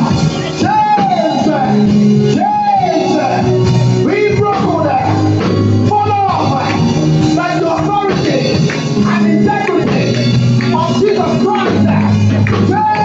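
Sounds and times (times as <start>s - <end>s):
person singing worship song: 0.0s - 13.0s
sustained instrumental chords and bass: 0.0s - 13.0s.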